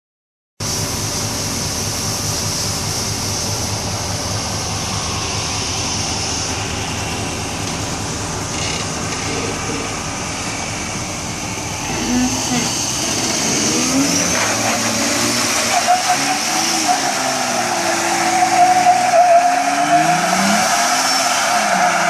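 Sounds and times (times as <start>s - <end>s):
supercharged engine roaring with hiss: 0.6s - 22.0s.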